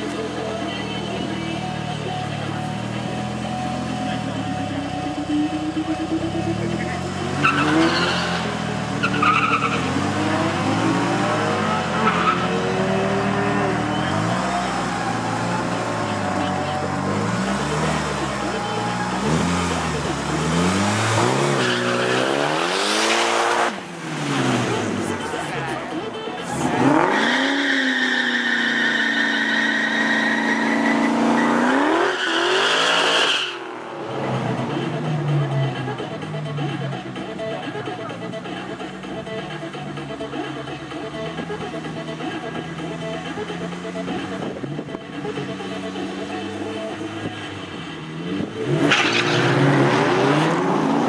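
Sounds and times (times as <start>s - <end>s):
drag cars accelerating: 0.0s - 51.0s.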